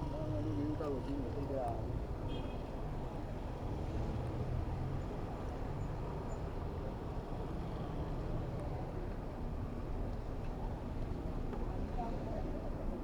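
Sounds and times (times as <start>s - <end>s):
road and traffic noise: 0.0s - 13.0s.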